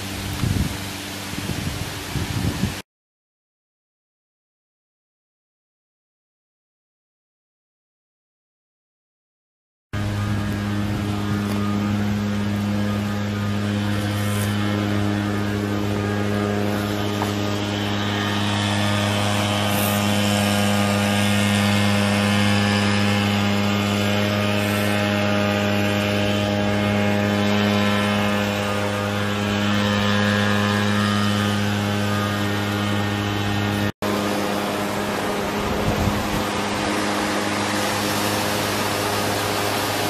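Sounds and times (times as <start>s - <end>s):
low mechanical hum: 0.0s - 2.8s, 10.0s - 40.0s.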